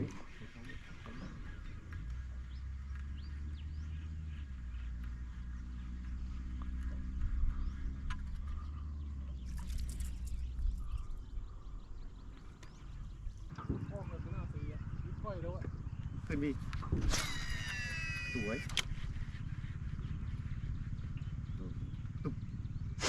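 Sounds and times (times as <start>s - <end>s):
birds chirping: 0.0s - 23.0s
engine humming: 0.0s - 23.0s.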